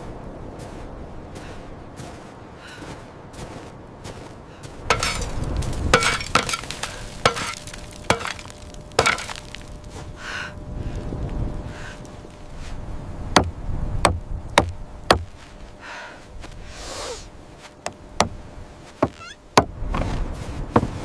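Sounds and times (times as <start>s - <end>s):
low rumbling noise: 0.0s - 18.8s.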